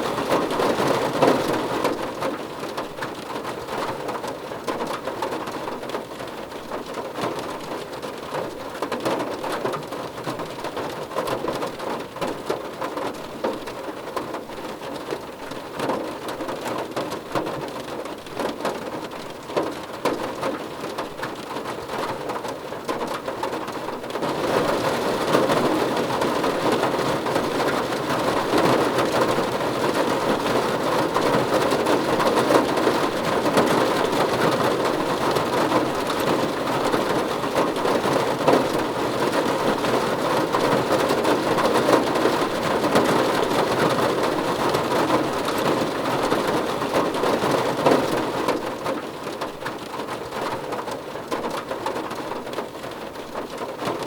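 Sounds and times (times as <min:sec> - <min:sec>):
rain pattering on a car roof: 0:00.0 - 0:54.0.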